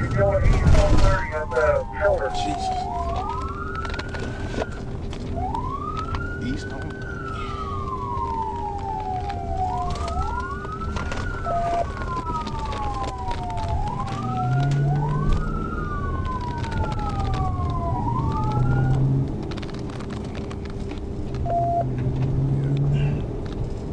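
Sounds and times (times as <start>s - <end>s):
police siren wailing: 0.0s - 23.4s
car engine and road rumble: 0.0s - 23.9s.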